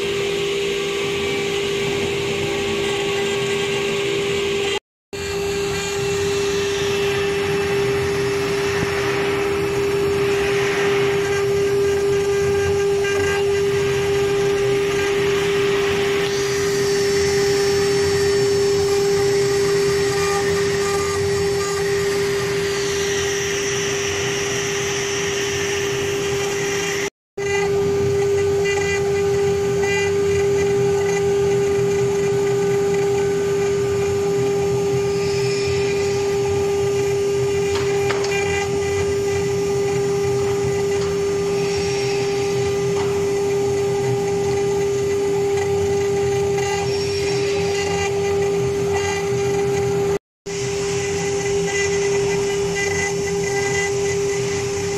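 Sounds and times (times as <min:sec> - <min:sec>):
router spindle whine: 0:00.0 - 0:54.9.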